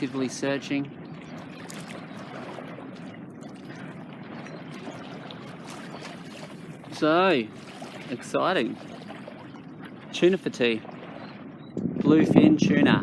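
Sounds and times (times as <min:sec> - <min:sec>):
water rushing along boat hull: 0:00.0 - 0:13.0.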